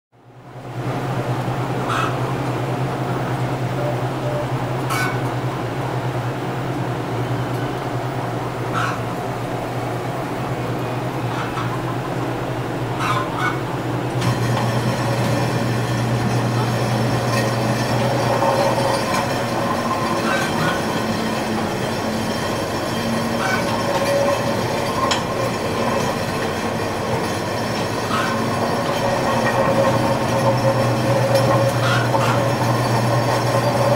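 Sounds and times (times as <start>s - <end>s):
chain drive humming and rattling: 0.3s - 33.9s.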